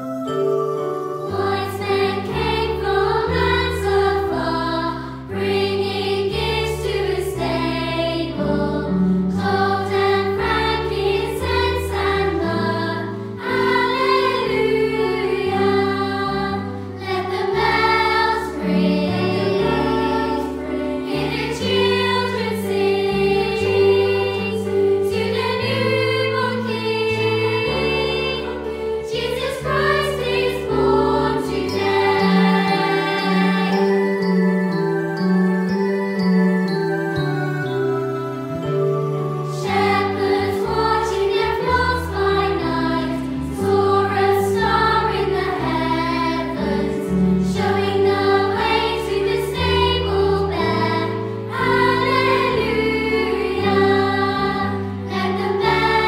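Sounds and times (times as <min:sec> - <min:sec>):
choir singing a carol: 0:00.0 - 0:56.0
instrumental accompaniment: 0:00.0 - 0:56.0.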